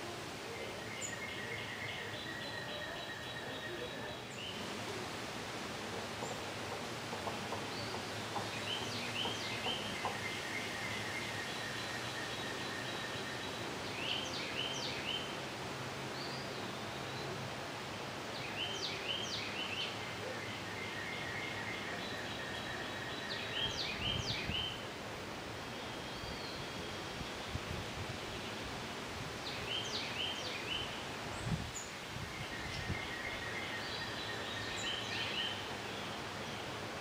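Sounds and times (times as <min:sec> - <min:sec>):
songbird singing: 0:00.0 - 0:37.0
steady outdoor hiss: 0:00.0 - 0:37.0.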